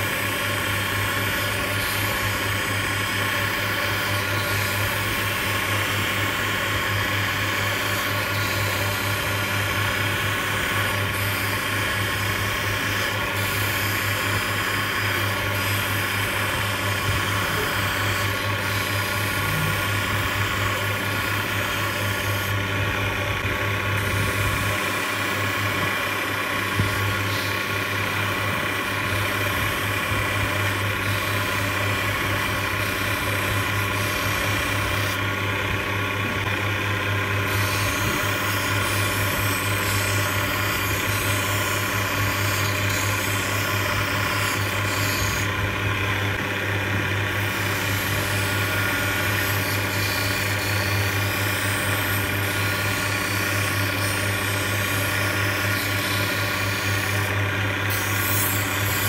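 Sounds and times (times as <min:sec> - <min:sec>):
motor hum: 0:00.0 - 0:59.0.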